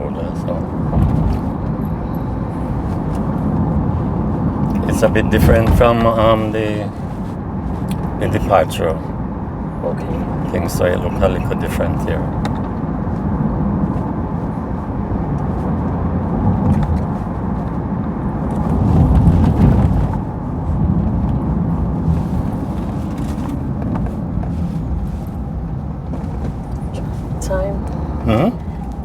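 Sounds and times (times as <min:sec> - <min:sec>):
car cabin road and engine rumble: 0:00.0 - 0:29.0.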